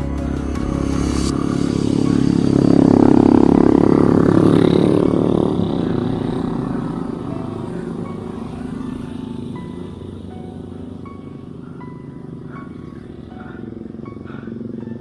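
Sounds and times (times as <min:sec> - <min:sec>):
motorcycle engine passing: 0:00.0 - 0:15.0.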